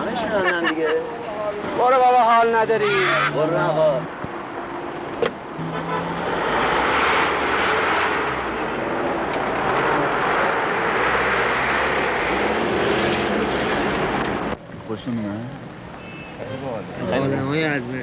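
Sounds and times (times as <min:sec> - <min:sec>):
car engine and road noise: 0:00.0 - 0:15.1.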